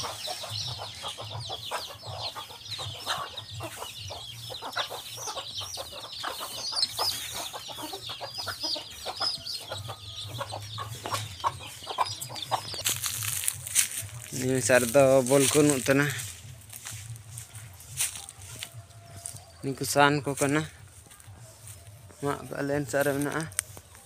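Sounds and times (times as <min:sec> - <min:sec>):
chicks peeping: 0:00.0 - 0:24.0
hens clucking: 0:00.0 - 0:24.0.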